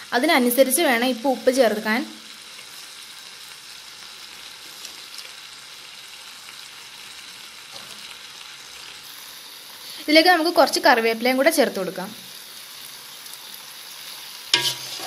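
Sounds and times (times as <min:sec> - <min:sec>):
chicken sizzling in pan: 0:00.0 - 0:15.0.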